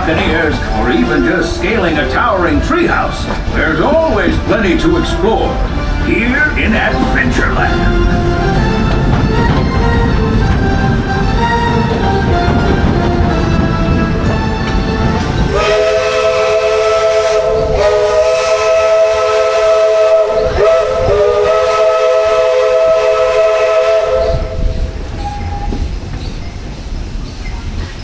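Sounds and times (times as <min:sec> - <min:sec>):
steam locomotive chime whistle: 0:00.0 - 0:25.8
train running rumble: 0:00.0 - 0:28.0.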